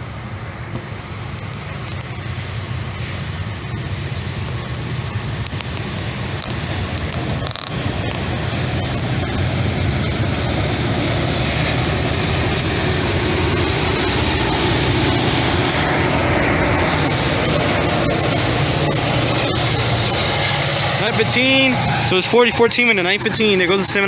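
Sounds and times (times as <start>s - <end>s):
diesel locomotive engine humming: 0.0s - 24.0s
train wheels on rails: 0.0s - 24.0s.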